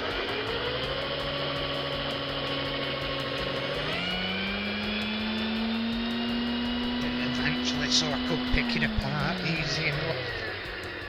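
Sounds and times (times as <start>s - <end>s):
electric drill whining: 0.0s - 11.0s.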